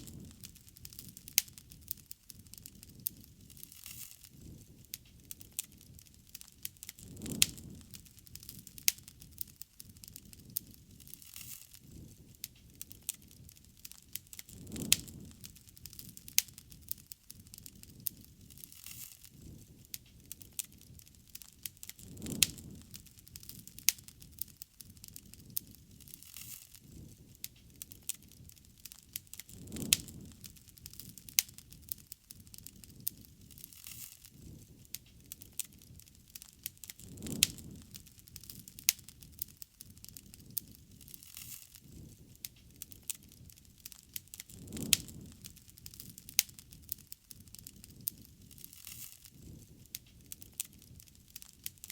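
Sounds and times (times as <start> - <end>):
low flame rumble: 0.0 - 51.9
wood fire crackling and popping: 0.0 - 51.9.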